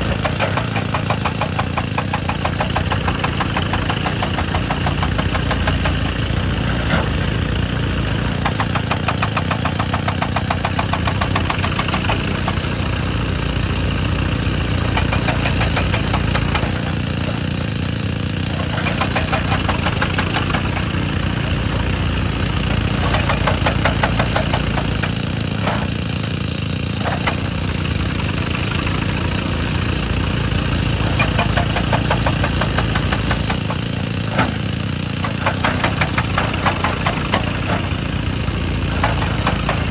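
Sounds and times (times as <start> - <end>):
hydraulic rock breaker hammering: 0.0 - 39.9
machine engine running: 0.0 - 39.9.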